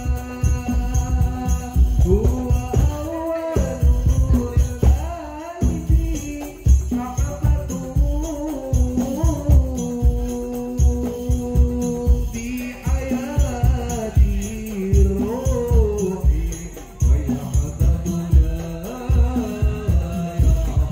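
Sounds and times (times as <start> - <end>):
frame drums rhythm: 0.0 - 20.9
man singing into a microphone: 0.0 - 20.9.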